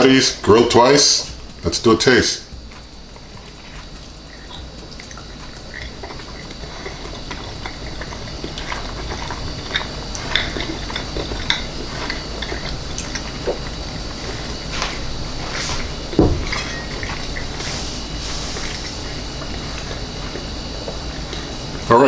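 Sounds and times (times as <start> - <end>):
person chewing food: 1.2 - 21.8.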